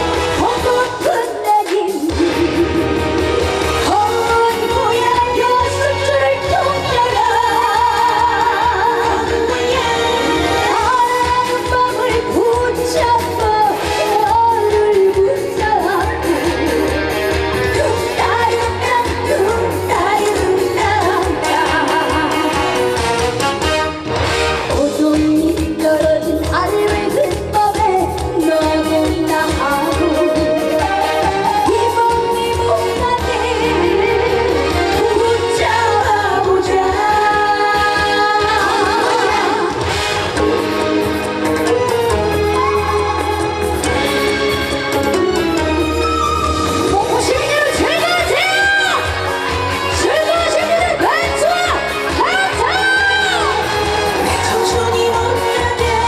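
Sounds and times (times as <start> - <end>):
woman singing: 0.0 - 23.2, 24.7 - 40.0, 45.5 - 56.0
backing band track with steady beat: 0.0 - 56.0.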